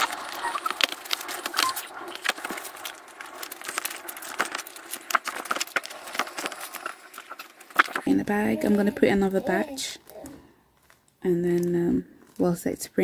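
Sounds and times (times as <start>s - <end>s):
stickers peeling off backing: 0.0s - 12.6s.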